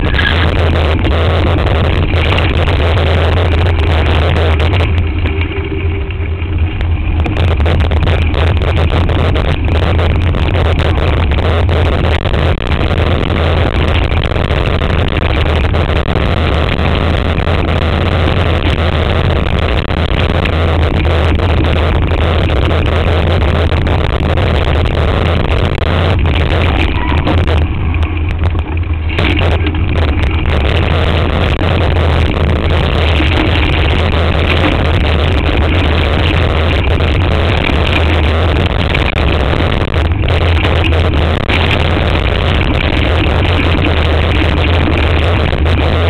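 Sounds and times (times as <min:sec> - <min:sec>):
low rumble: 0:00.0 - 0:46.0
wind buffeting: 0:00.0 - 0:46.0.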